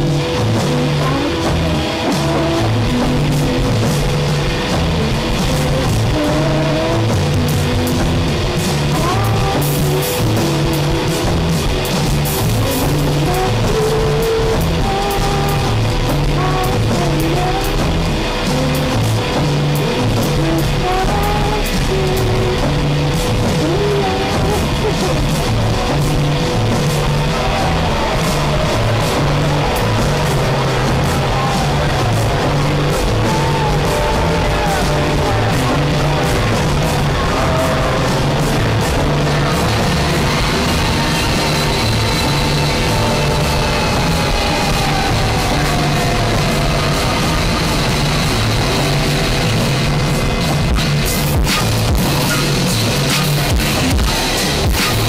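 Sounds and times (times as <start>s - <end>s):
distorted noise wall: 0.0s - 55.0s
pulsing bass: 0.0s - 55.0s.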